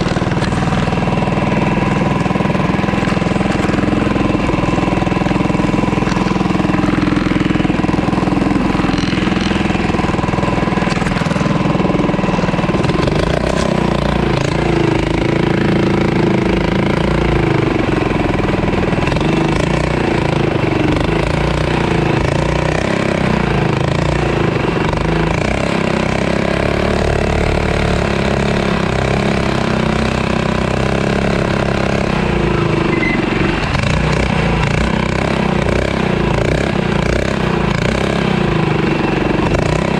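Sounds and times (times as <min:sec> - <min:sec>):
small bike engine revving: 0:00.0 - 0:39.9.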